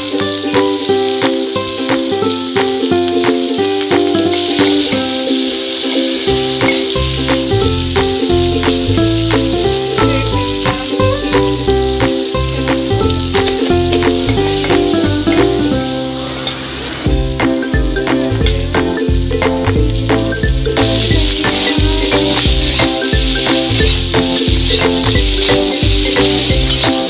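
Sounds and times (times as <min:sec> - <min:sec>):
background music with a beat: 0:00.0 - 0:16.0, 0:17.1 - 0:27.0
vegetables sizzling in a pan: 0:00.0 - 0:27.0.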